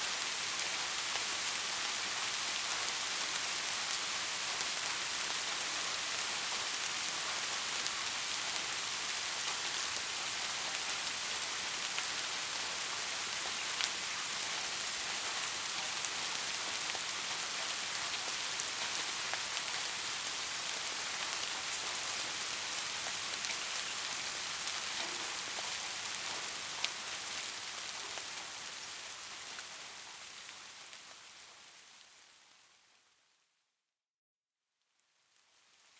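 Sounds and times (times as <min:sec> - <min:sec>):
steady rain: 0:00.0 - 0:33.4, 0:35.0 - 0:35.9.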